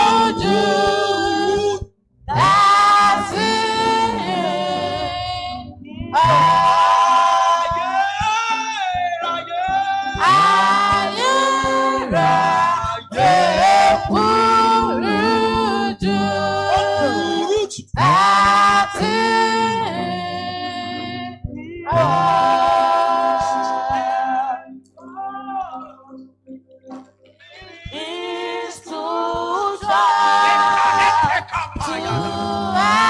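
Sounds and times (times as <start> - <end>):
voices singing: 0.0 - 26.2, 27.3 - 33.0.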